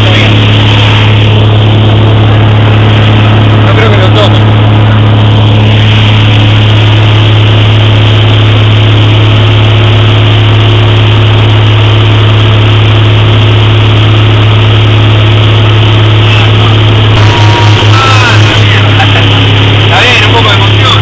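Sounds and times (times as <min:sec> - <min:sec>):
light aircraft cabin drone: 0:00.0 - 0:21.0.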